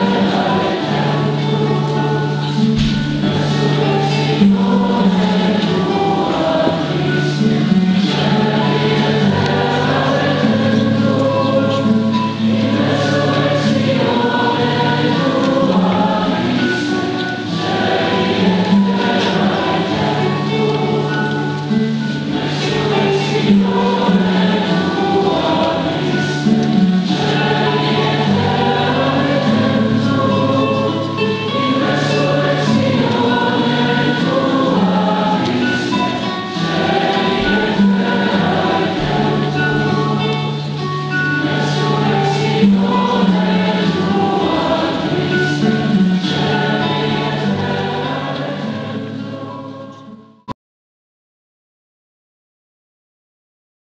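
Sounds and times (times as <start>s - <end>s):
congregation and choir chanting: 0.0s - 50.4s.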